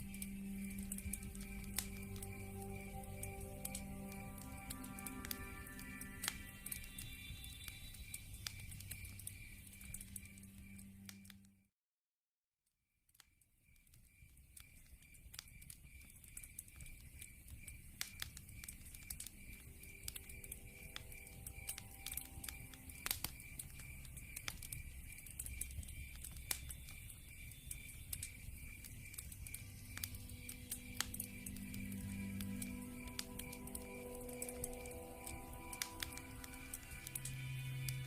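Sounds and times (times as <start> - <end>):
crickets chirping: 0.0 - 11.3, 13.7 - 38.0
log fire crackling and popping: 0.0 - 11.3, 13.7 - 38.0.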